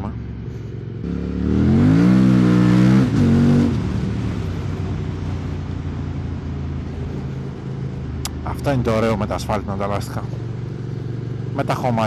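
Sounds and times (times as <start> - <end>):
motorcycle engine riding: 0.0 - 12.0.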